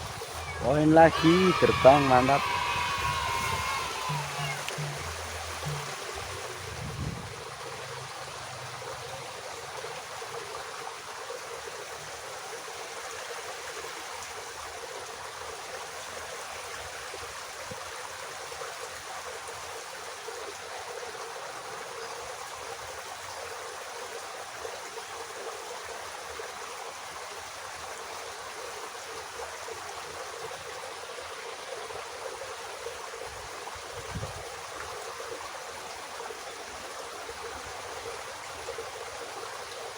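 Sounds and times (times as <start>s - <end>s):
water flowing in a ditch: 0.0s - 39.9s.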